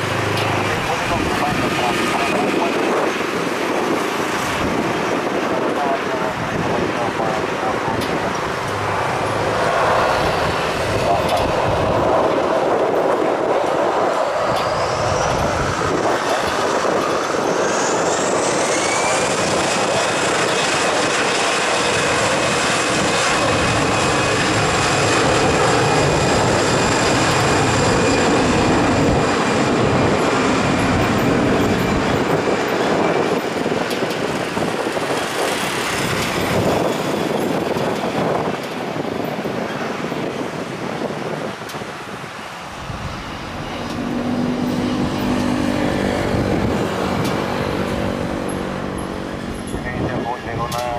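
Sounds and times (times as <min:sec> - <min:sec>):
jet engine whine: 0:00.0 - 0:50.9
loud jet noise: 0:00.0 - 0:50.9.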